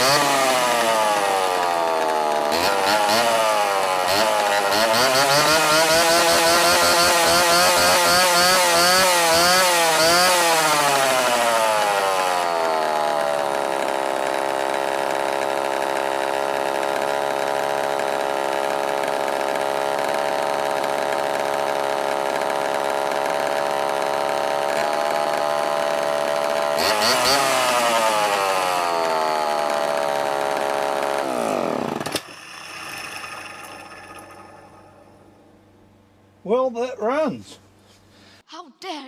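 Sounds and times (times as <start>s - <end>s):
chainsaw engine running and revving: 0.0s - 35.2s.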